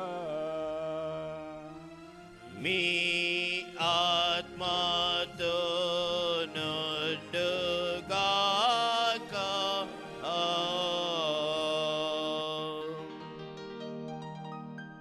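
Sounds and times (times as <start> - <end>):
person chanting liturgical response: 0.0 - 13.0
keyboard holding a chord: 0.0 - 15.0.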